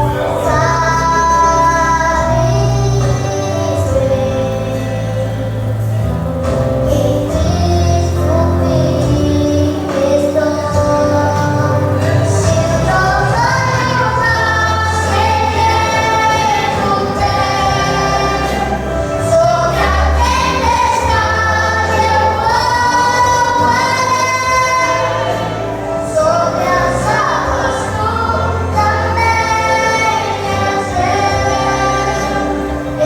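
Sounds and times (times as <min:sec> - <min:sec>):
instrumental backing with bass line: 0:00.0 - 0:33.0
voices singing together: 0:00.0 - 0:33.0.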